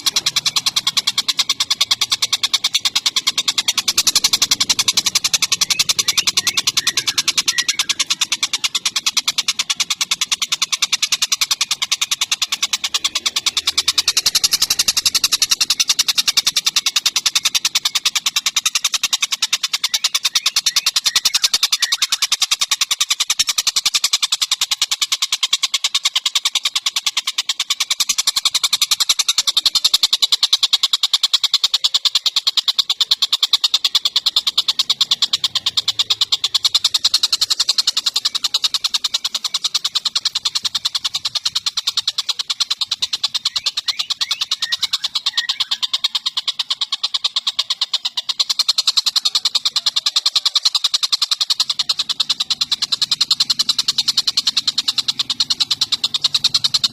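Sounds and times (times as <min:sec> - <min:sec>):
bird rapid sharp calls: 0:00.0 - 0:56.9.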